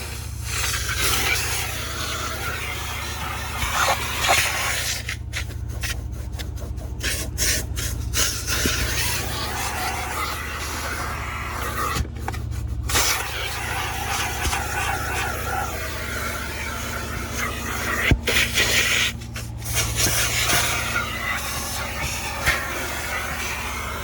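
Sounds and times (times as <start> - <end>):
suction hiss of air and water: 0.0 - 5.2, 7.0 - 12.1, 12.9 - 24.0
vacuum motor running: 0.0 - 24.0.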